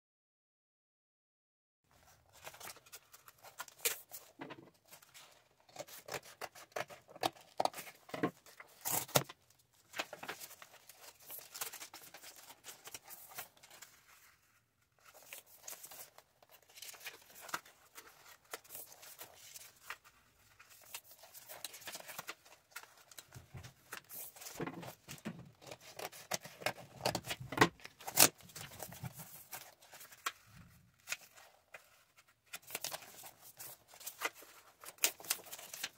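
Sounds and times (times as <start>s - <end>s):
paper pages rustling: 1.9s - 35.9s.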